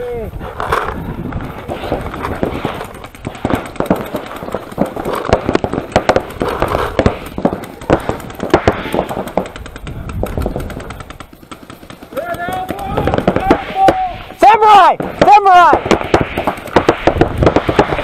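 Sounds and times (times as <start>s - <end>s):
paintball markers popping: 0.6s - 14.0s, 15.2s - 18.0s.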